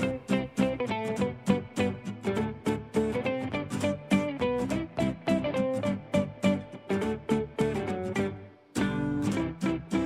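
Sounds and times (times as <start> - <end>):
plucked guitar music: 0.0 - 10.0.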